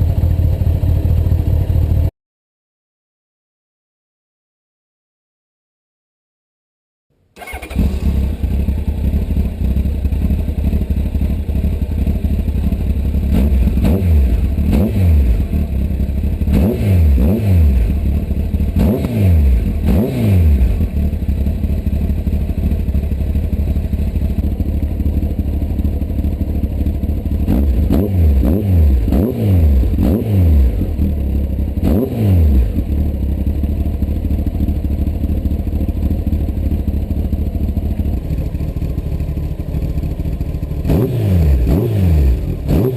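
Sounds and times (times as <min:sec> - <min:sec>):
motorcycle engine revving and idling: 0:00.0 - 0:02.1, 0:07.4 - 0:42.9.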